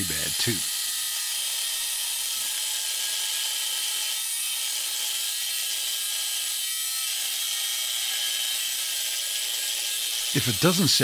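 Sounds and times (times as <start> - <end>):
angle grinder cutting steel: 0.0 - 11.0.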